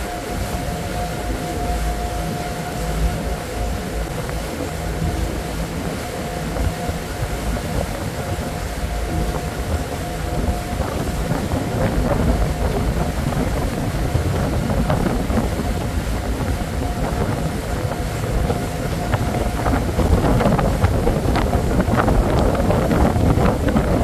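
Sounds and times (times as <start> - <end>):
ferry engine rumble: 0.0 - 24.0
rushing wind and water: 0.0 - 24.0
wind buffeting microphone: 0.0 - 24.0.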